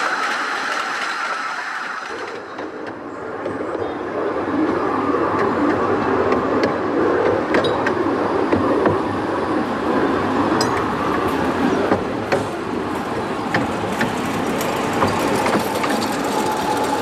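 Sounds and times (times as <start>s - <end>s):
clicks and knocks of train: 0.0s - 17.0s
locomotive running noise: 0.0s - 17.0s
locomotive whine: 0.0s - 17.0s
train wheels on rails: 0.0s - 17.0s.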